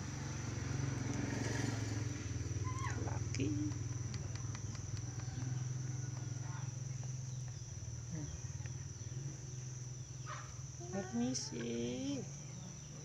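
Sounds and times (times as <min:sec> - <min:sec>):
high-pitched insect whine: 0:00.0 - 0:13.0
low pulsing engine-like hum: 0:00.0 - 0:13.0.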